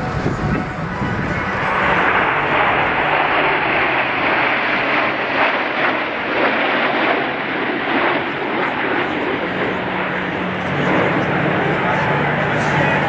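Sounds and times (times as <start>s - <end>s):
jets flying past overhead: 0.0s - 13.0s.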